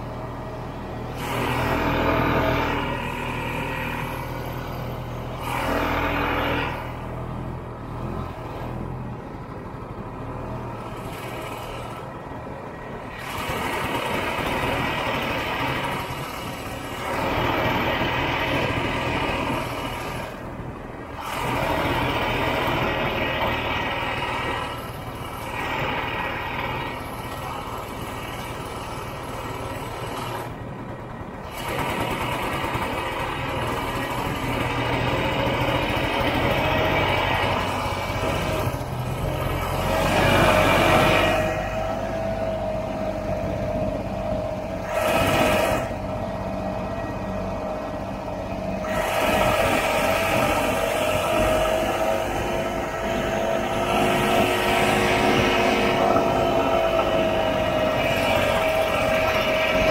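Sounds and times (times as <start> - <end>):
snowmobile engine revving: 1.1 - 8.7, 13.0 - 20.5, 21.1 - 30.6, 31.4 - 47.2, 48.8 - 59.9.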